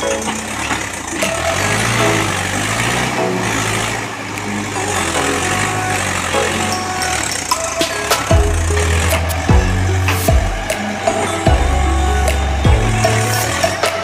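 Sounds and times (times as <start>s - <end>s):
tractor diesel engine droning: 0.0s - 14.0s.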